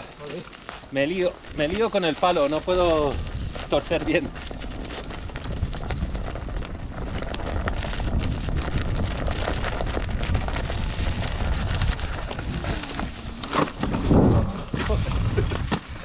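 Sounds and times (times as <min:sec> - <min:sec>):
bike tyres rattling over stones: 0:00.0 - 0:16.0
wind rumbling on microphone: 0:00.0 - 0:16.0.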